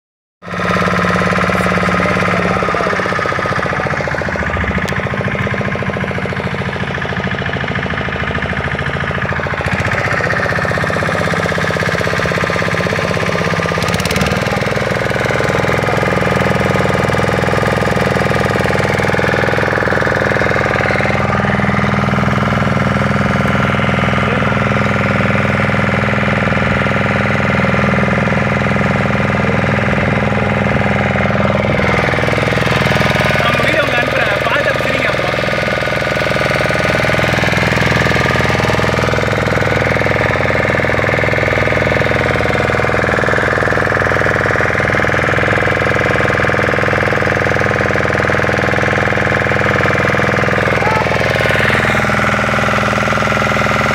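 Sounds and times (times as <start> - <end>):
boat engine droning: 0.4 - 53.9.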